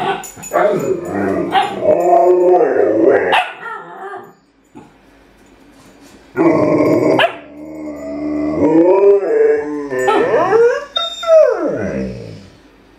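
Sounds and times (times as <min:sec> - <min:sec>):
dog grumbling and moaning: 0:00.4 - 0:04.9, 0:06.3 - 0:12.7.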